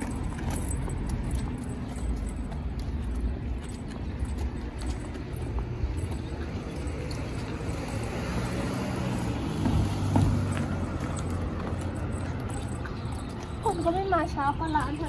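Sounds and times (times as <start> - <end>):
street ambience: 0.0 - 15.0.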